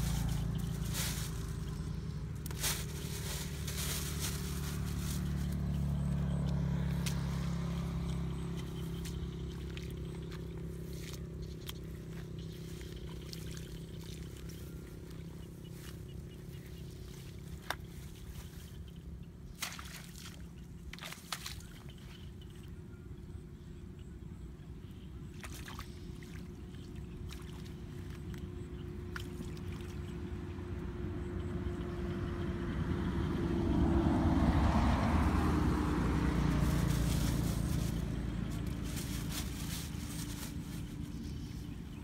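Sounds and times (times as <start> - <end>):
low engine drone: 0.0 - 42.0.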